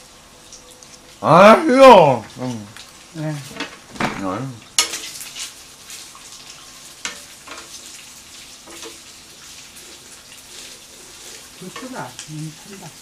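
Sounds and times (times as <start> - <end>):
pork sizzling on a grill: 0.0 - 13.0.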